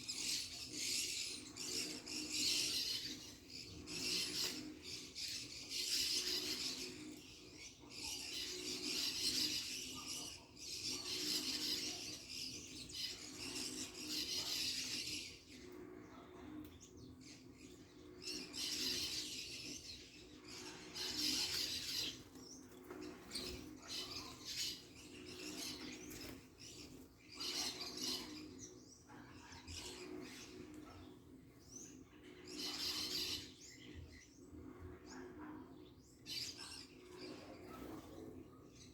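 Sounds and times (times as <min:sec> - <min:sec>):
birds chirping and fluttering: 0:00.0 - 0:38.9.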